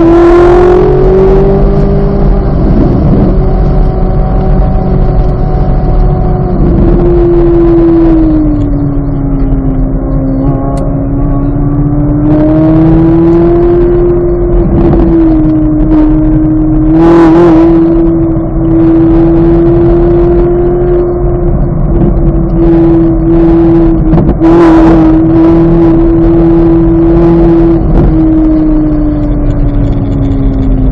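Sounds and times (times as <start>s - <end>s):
sports car engine running hard: 0.0s - 30.9s.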